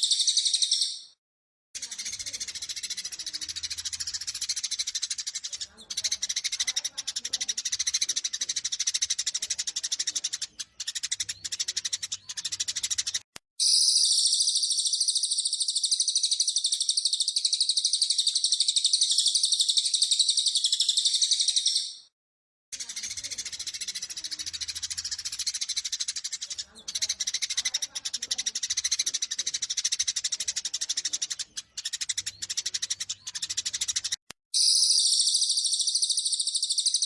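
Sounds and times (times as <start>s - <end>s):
high fast bird trill: 0.0s - 1.2s, 1.8s - 22.1s, 22.8s - 37.0s
sparrows chattering: 0.0s - 1.2s, 1.8s - 22.1s, 22.7s - 37.0s.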